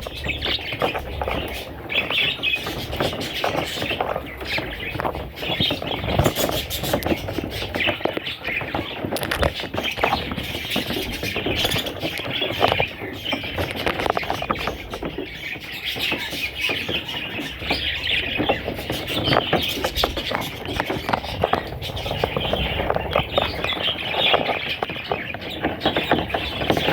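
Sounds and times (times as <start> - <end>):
budgerigar chicks chirping: 0.0 - 26.9.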